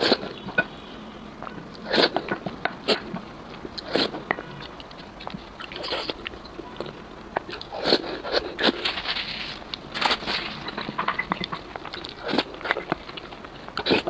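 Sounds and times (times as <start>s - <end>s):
slurping and chewing noodles: 0.0s - 0.8s, 1.7s - 14.0s.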